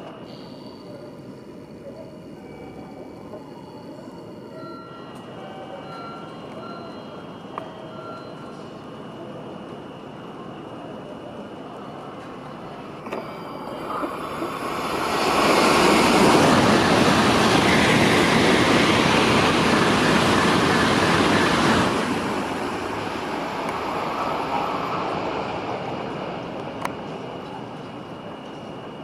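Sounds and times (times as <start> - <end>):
train passing roar: 0.0 - 29.0.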